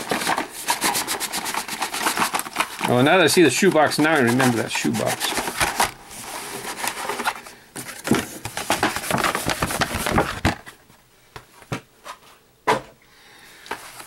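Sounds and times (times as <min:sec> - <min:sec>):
plastic packages rustling and clicking: 0:00.0 - 0:12.2.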